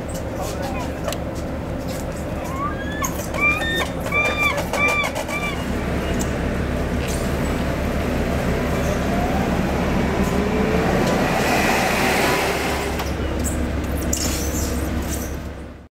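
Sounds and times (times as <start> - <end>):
forklift engine running: 0.0 - 15.8.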